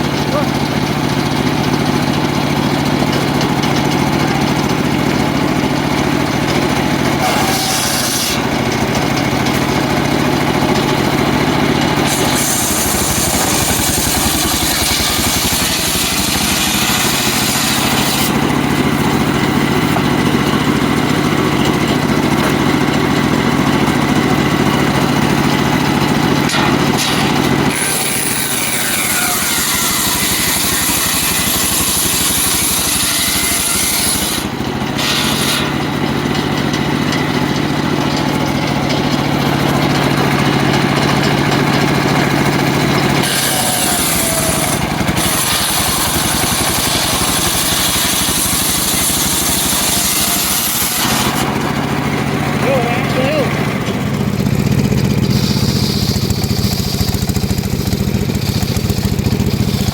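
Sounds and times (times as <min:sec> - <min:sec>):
saw blade cutting log: 0:00.0 - 0:59.9
sawmill engine running: 0:00.0 - 0:59.9.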